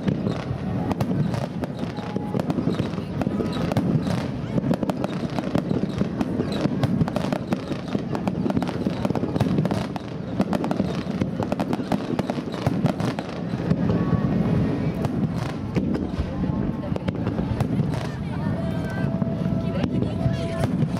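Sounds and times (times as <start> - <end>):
fireworks cracking and banging: 0.0 - 20.9.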